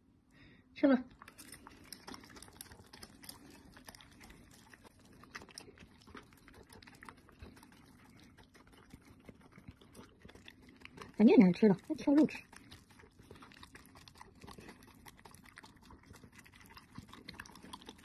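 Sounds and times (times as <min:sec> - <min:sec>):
dog chewing and lapping food: 0:01.1 - 0:18.0.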